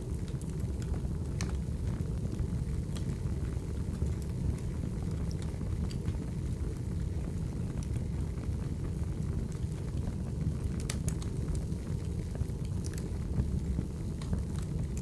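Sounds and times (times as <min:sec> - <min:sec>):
fire crackles and pops: 0:00.0 - 0:15.0
wood fire burning: 0:00.0 - 0:15.0.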